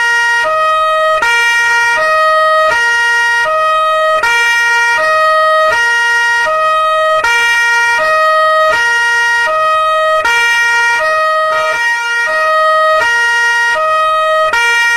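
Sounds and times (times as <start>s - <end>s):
police two-tone siren: 0.0s - 14.9s.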